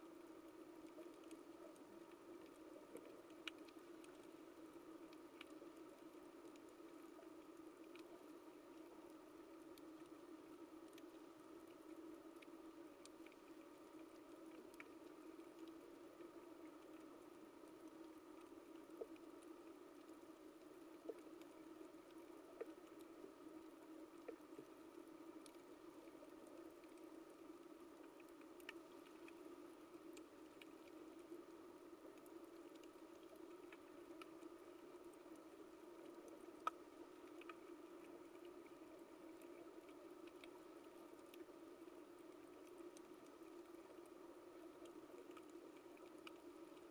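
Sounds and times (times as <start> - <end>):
low underwater hum: 0.0 - 46.9
sharp reef clicks: 0.9 - 8.9, 10.8 - 46.9.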